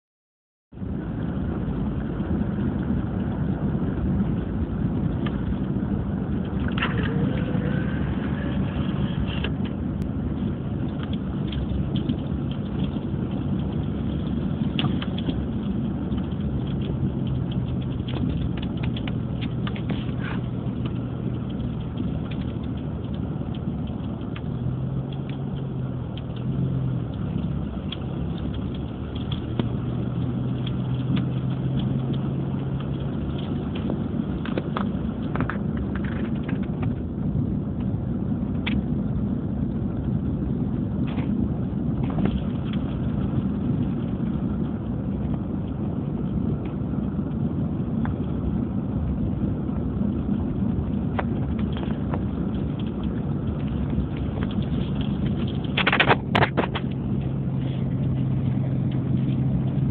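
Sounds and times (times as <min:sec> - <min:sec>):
road noise: 0:00.7 - 0:59.9
car engine humming: 0:00.8 - 0:59.9.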